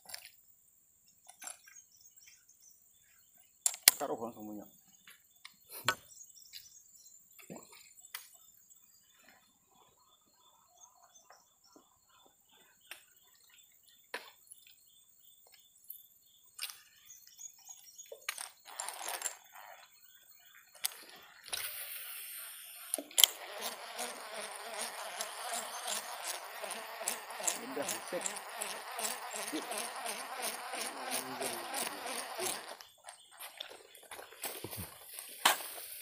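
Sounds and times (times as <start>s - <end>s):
insects droning: 1.9s - 36.0s.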